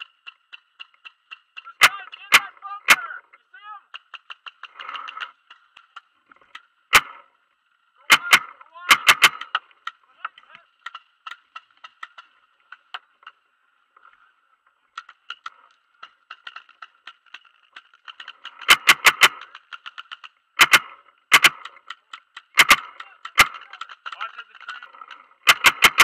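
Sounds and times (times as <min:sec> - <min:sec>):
faint distant paintball pops: 0:00.0 - 0:07.4, 0:08.0 - 0:26.0
loud paintball shots: 0:00.0 - 0:07.4, 0:08.1 - 0:13.3, 0:14.9 - 0:26.0.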